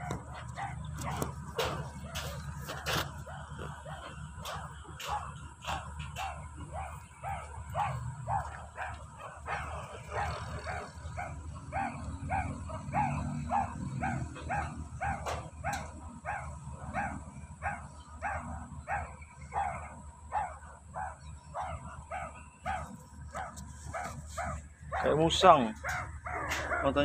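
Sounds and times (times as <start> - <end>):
meerkat barking calls: 0.0 - 27.0.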